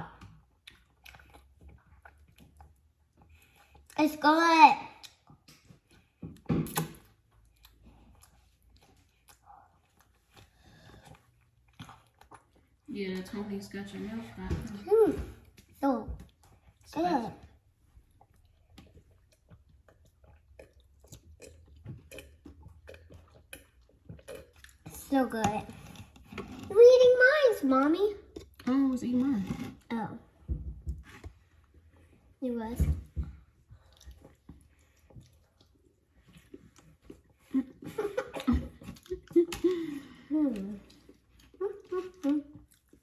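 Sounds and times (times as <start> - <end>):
person chewing food: 0.0 - 4.0, 4.9 - 13.3, 15.4 - 26.8, 28.2 - 28.7, 29.6 - 32.4, 33.2 - 43.0.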